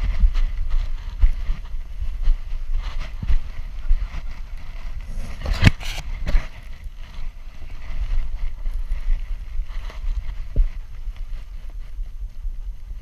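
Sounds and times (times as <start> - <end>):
low rumble: 0.0 - 13.0
wind buffeting camera: 0.0 - 13.0.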